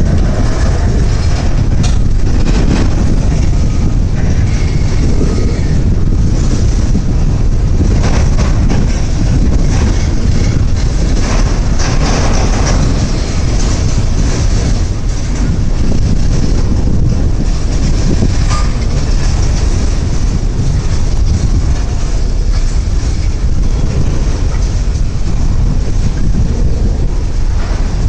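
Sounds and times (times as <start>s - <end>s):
steel wheels rumbling on rails: 0.0s - 28.0s
wheels clacking over rail joint: 0.0s - 28.0s.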